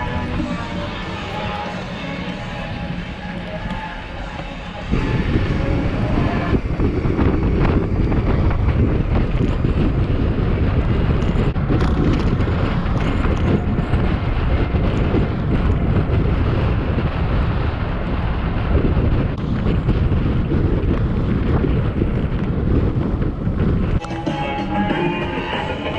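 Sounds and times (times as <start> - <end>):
wind buffeting microphone: 0.0 - 24.1.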